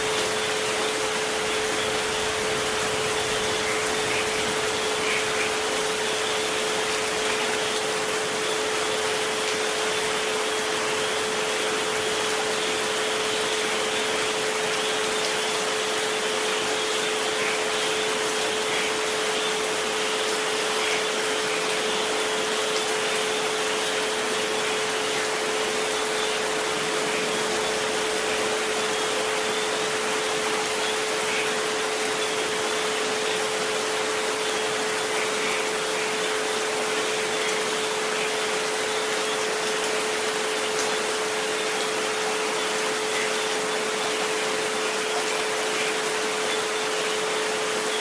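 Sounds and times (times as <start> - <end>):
rain: 0.0 - 48.0.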